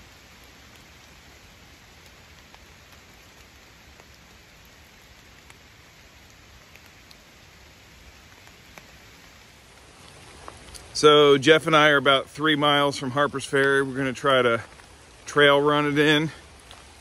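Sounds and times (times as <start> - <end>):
light rain hissing: 0.0 - 17.0.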